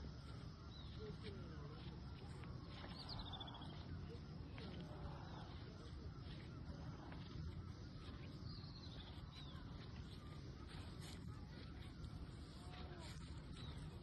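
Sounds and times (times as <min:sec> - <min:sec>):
bird chirps: 0:00.0 - 0:14.0
low rumble of wind: 0:00.0 - 0:14.0.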